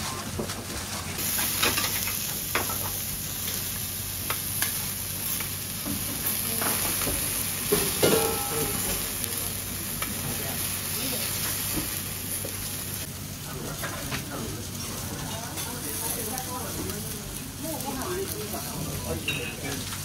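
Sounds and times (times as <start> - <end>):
vegetables sizzling on a griddle: 0.0 - 20.0.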